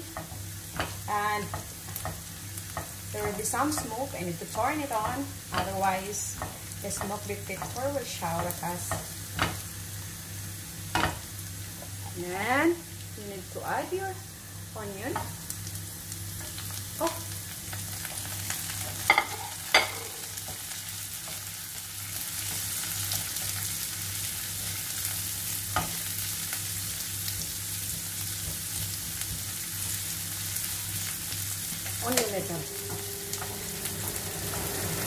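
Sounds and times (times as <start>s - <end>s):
onion sizzling in oil: 0.0s - 35.0s.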